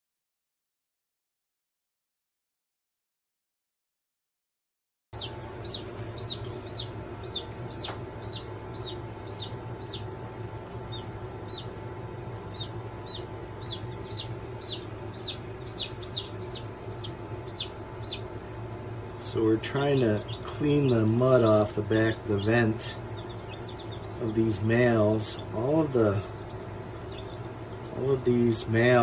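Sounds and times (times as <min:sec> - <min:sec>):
chicks peeping: 0:05.2 - 0:29.0
steady low hum: 0:05.2 - 0:29.0.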